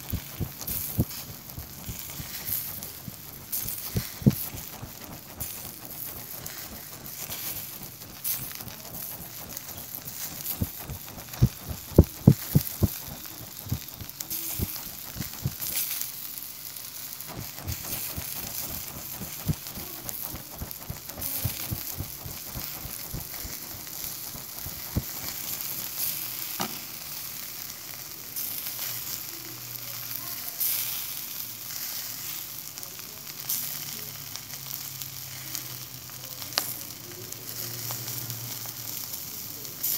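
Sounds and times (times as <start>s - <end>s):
skewers sizzling over charcoal: 0.0s - 39.9s.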